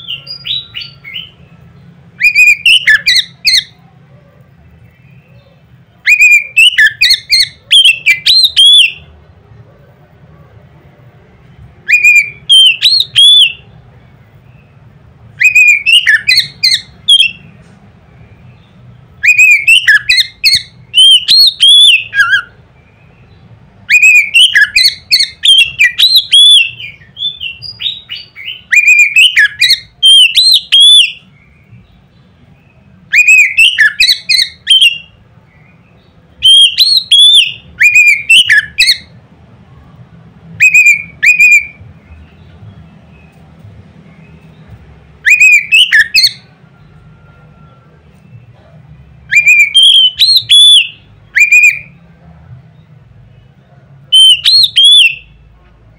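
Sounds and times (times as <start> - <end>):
bird singing whistled notes: 0.0 - 3.8, 4.7 - 9.1, 11.8 - 39.9, 40.6 - 43.4, 44.0 - 52.2, 52.8 - 55.5.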